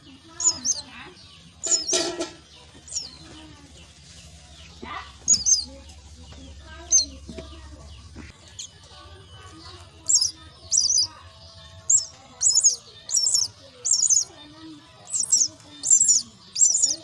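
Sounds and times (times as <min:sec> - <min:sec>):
bird chicks begging calls: 0:00.0 - 0:17.0.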